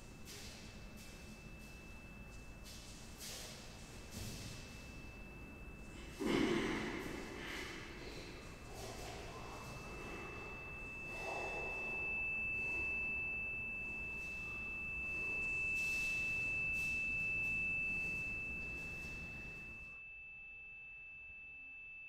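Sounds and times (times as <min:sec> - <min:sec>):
high-pitched pure tone: 0:00.0 - 0:22.0.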